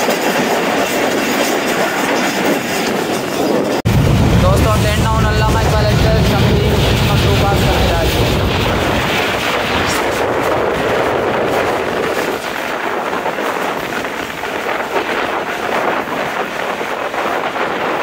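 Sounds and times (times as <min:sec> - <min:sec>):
train running on track: 0:00.0 - 0:18.0
wind rushing over microphone: 0:00.0 - 0:18.0.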